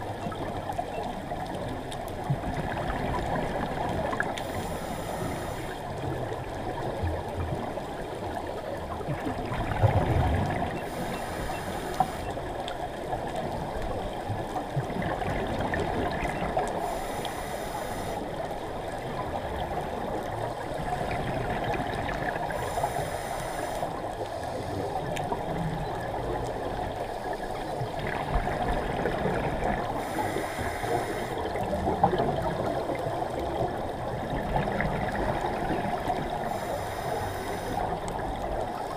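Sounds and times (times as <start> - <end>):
underwater watery rush: 0.0 - 38.9.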